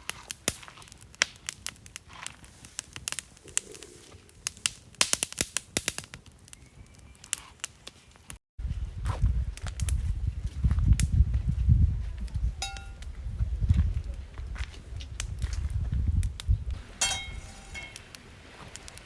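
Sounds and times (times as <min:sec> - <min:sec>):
wood fire crackling: 0:00.0 - 0:08.8, 0:09.4 - 0:11.3, 0:12.6 - 0:13.2, 0:13.8 - 0:19.0.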